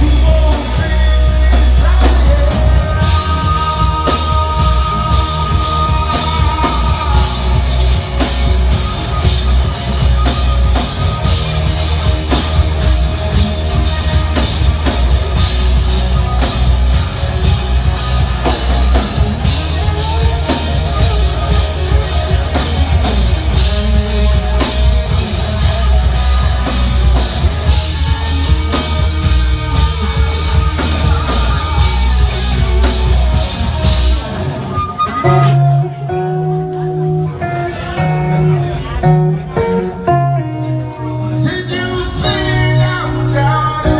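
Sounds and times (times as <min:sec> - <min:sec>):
drums and cymbals: 0:00.0 - 0:35.9
live rock band playing: 0:00.0 - 0:43.9.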